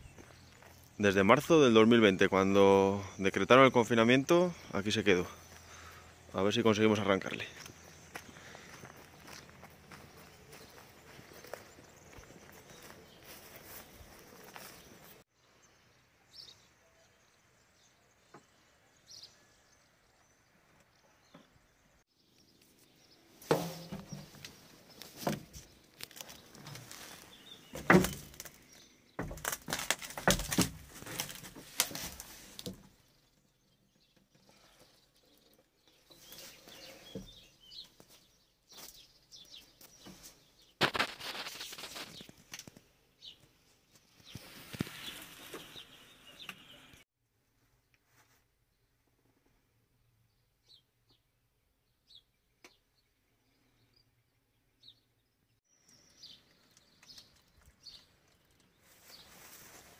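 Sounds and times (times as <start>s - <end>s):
birds chirping faintly: 0.0s - 47.1s, 50.0s - 59.9s.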